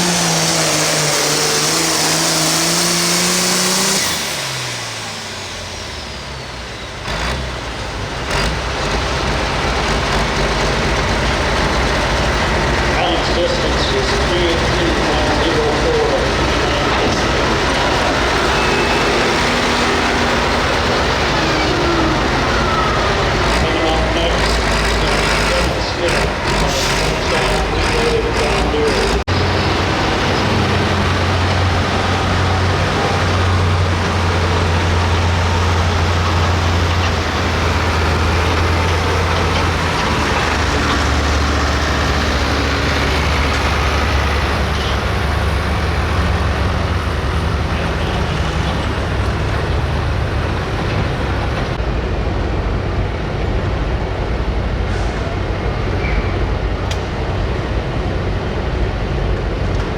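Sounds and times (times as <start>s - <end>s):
tractor engine running hard: 0.0s - 59.9s.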